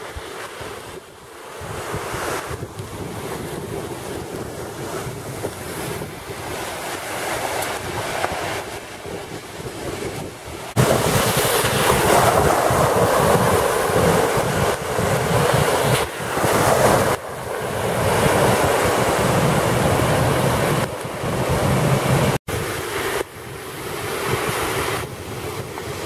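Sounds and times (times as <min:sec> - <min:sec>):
floodwater gushing and splashing: 0:00.0 - 0:26.0
wind buffeting microphone: 0:00.0 - 0:26.0.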